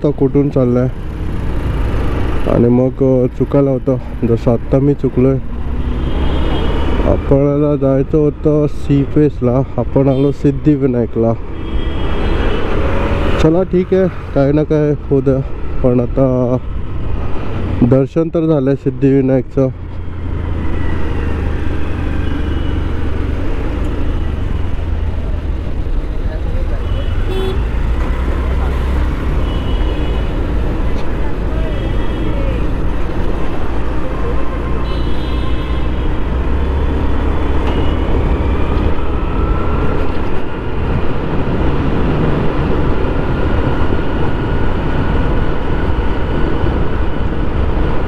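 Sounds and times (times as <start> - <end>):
road noise: 0.0 - 48.0
surrounding traffic: 0.0 - 48.0.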